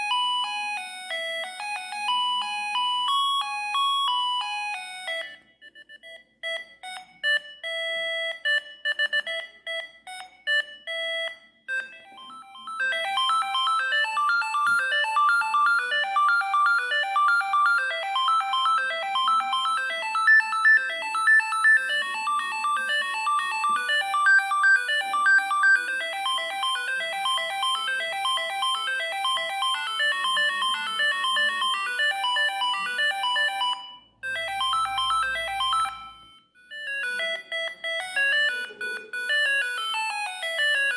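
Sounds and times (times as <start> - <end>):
mobile phone ringtone melodies: 0.0 - 40.9.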